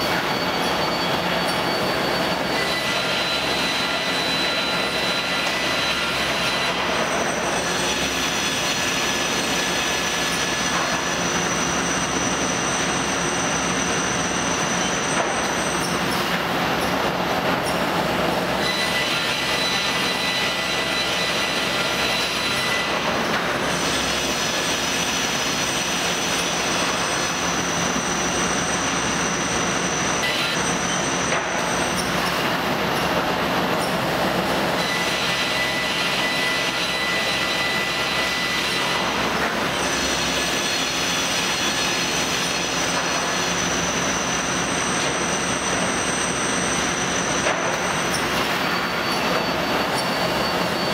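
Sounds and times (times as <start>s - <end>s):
high-pitched machine whines: 0.0s - 50.9s.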